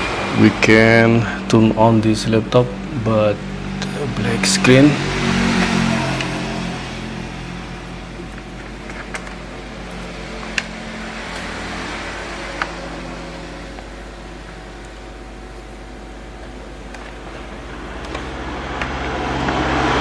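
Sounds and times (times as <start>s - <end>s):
steady hum and hiss: 0.0s - 20.0s.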